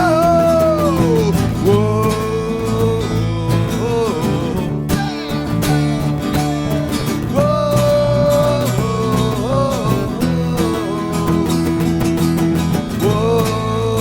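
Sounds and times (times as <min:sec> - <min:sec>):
punk band playing live: 0:00.0 - 0:14.0.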